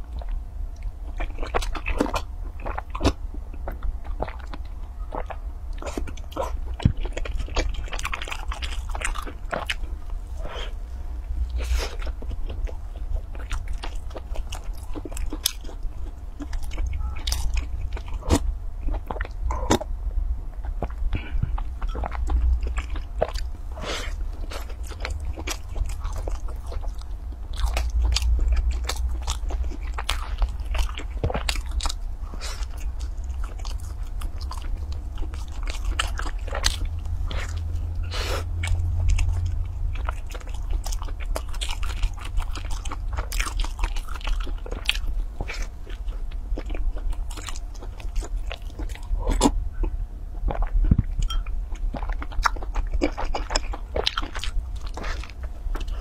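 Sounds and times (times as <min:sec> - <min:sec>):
chewing crispy food: 0:00.0 - 0:19.9, 0:20.5 - 0:56.0
steady low hum: 0:00.0 - 0:56.0.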